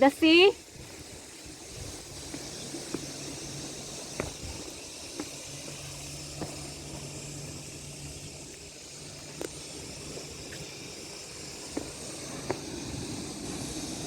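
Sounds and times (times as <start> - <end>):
beach ambience hiss: 0.0 - 14.0.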